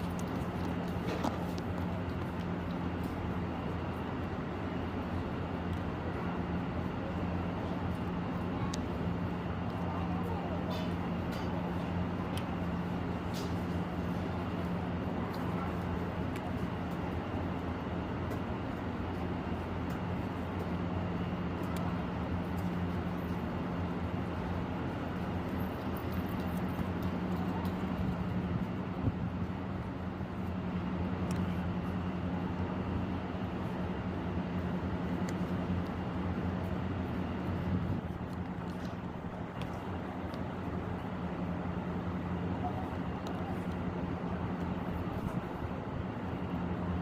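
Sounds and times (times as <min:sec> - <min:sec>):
constant noise wash: 0:00.0 - 0:47.0
low mechanical hum: 0:00.0 - 0:47.0.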